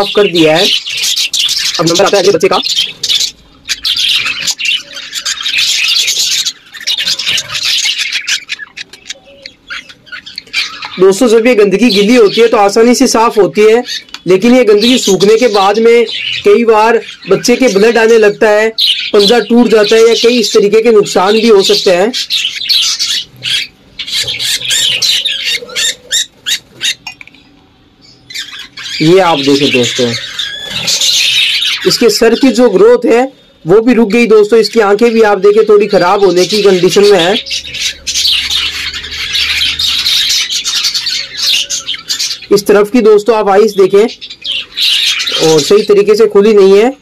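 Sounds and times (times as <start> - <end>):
budgerigars squawking and chirping: 0.0 - 47.0.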